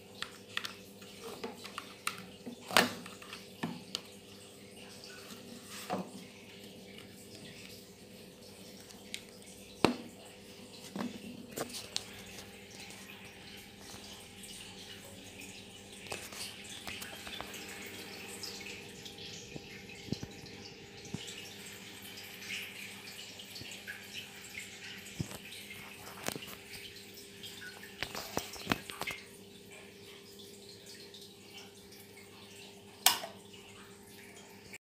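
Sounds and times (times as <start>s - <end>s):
water trickling: 0.0s - 34.8s.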